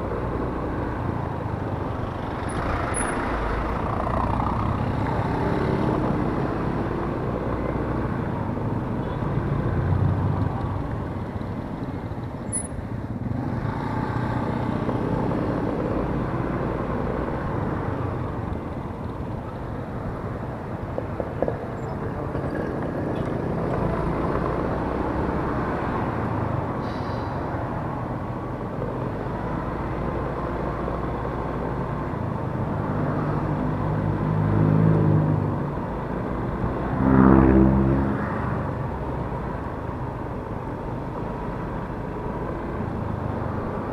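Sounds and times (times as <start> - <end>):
road and traffic noise: 0.0 - 43.9.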